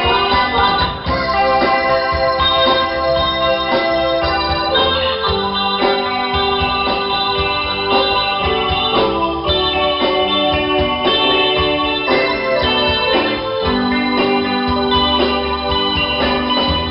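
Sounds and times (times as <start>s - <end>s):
bass guitar: 0.0s - 16.9s
drums keeping a beat: 0.0s - 16.9s
electronic organ chords: 0.0s - 16.9s.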